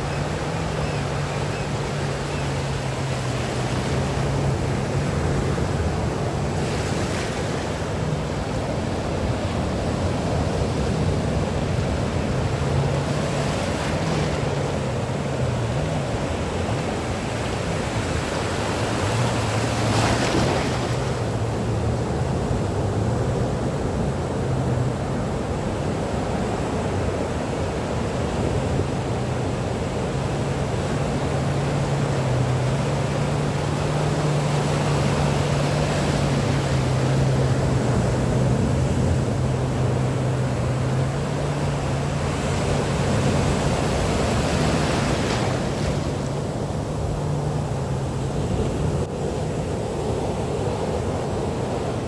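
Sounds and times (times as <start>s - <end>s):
sea waves washing: 0.0s - 52.0s.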